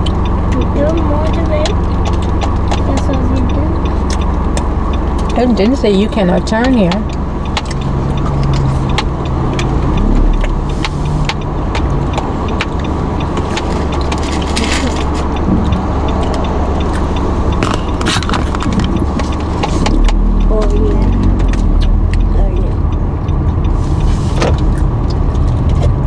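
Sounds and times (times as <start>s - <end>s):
car engine and road rumble: 0.0s - 26.0s
small clicks and rattles: 0.0s - 26.0s.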